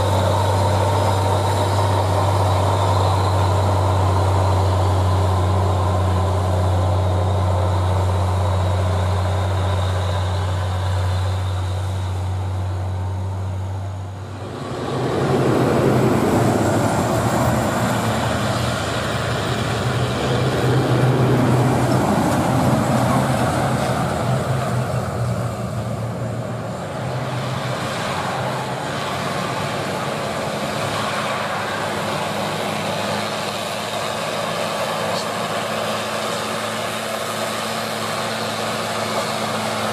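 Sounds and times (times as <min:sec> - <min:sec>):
dump truck engine drone: 0:00.0 - 0:39.9
truck road noise: 0:00.0 - 0:39.9.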